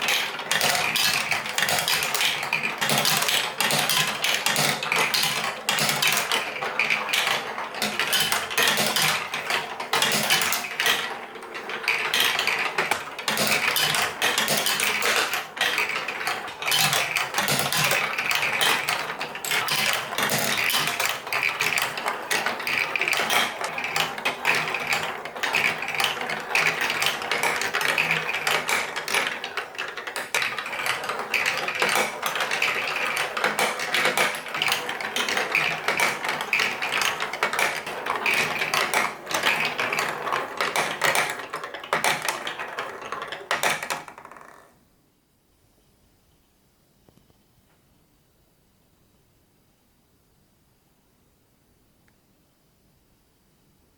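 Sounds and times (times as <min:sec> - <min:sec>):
marbles rolling on plastic tracks: 0:00.0 - 0:44.8.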